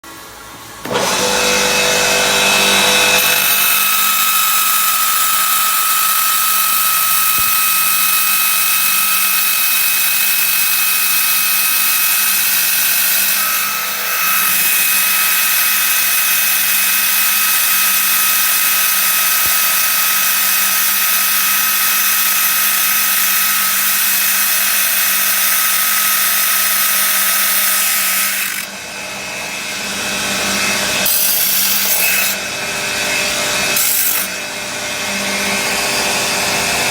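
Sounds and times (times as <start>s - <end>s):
belt grinder grinding: 0.8s - 28.8s, 29.7s - 36.9s.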